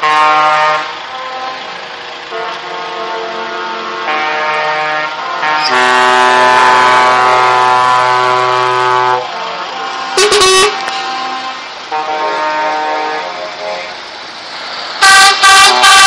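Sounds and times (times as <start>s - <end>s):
truck air horns: 0.0s - 14.0s, 15.0s - 16.0s
trucks driving past: 0.0s - 16.0s.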